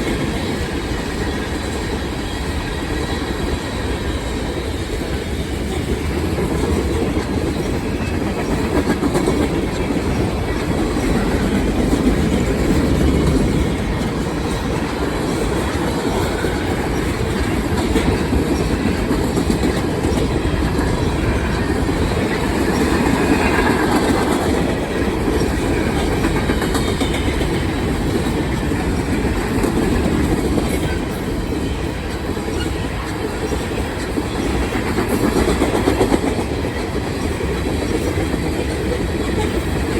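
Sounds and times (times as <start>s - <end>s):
freight train cars rolling past: 0.0s - 39.9s.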